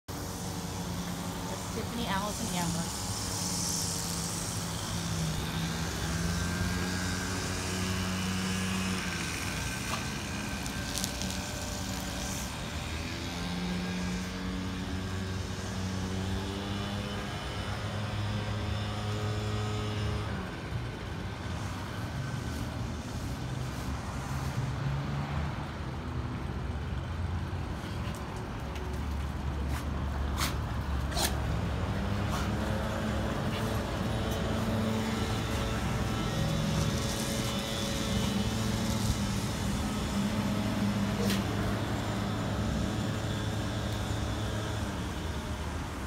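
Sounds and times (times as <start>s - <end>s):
vehicle engine hum: 0.0s - 46.0s.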